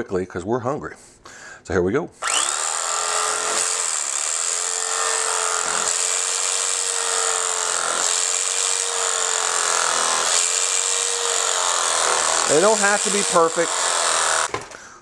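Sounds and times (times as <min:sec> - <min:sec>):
electric knife motor humming: 0:02.2 - 0:14.6.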